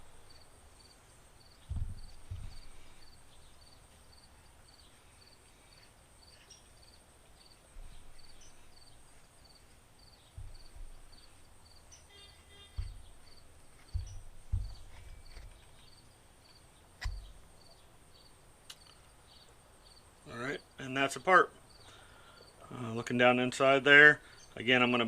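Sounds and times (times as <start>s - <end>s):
cricket chirping: 0.0s - 20.8s.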